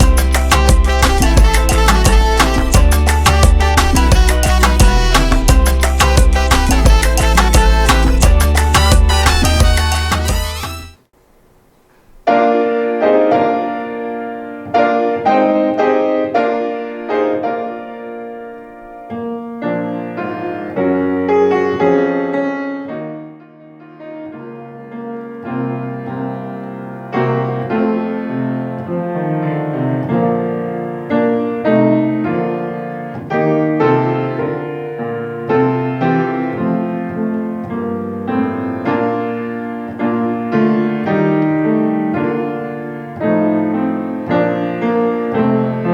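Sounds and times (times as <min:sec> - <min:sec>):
solo piano playing slow piece: 0:00.0 - 0:11.1, 0:12.2 - 0:45.9.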